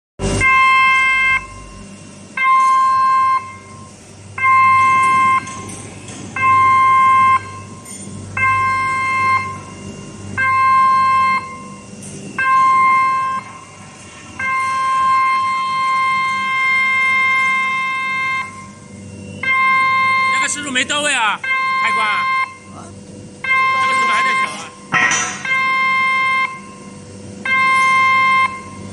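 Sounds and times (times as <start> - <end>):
electronic warning beeps: 0.3 - 1.8, 2.4 - 5.7, 6.4 - 13.8, 14.4 - 22.8, 23.4 - 28.9.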